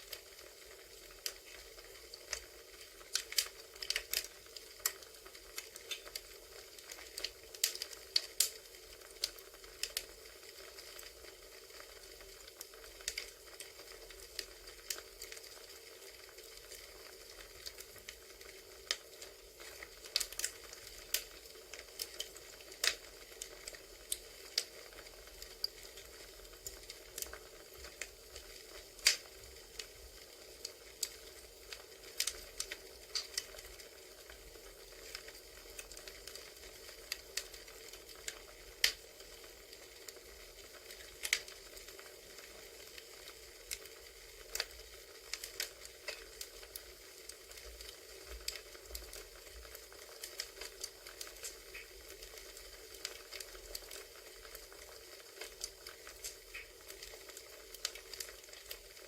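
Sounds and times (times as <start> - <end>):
campfire crackling: 0.0 - 59.0
soft fire hiss: 0.0 - 59.0.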